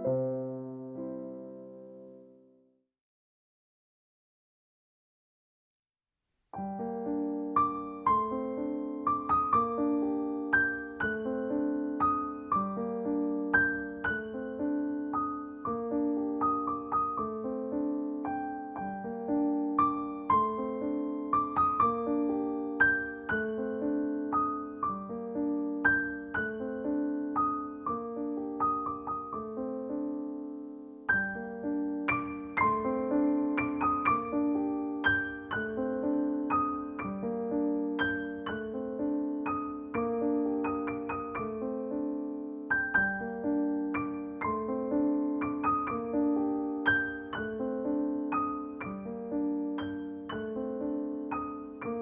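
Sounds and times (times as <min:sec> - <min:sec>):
gentle piano piece: 0:00.0 - 0:02.8, 0:06.5 - 0:52.0.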